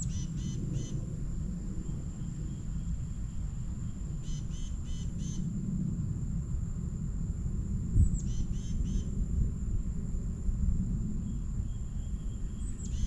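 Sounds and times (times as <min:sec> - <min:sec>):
high-pitched insect-like whine: 0:00.0 - 0:13.0
low outdoor rumble: 0:00.0 - 0:13.0.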